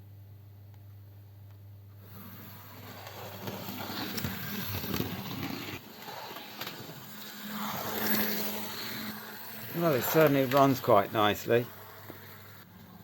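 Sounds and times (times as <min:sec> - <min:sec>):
model train motor hum: 0:02.0 - 0:13.0
wheels clattering over rails: 0:02.1 - 0:12.6.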